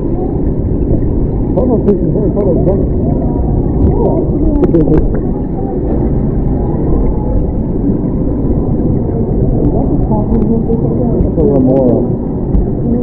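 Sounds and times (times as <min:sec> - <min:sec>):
faint indistinct voices: 0:00.0 - 0:13.0
low rumbling background noise: 0:00.0 - 0:13.0.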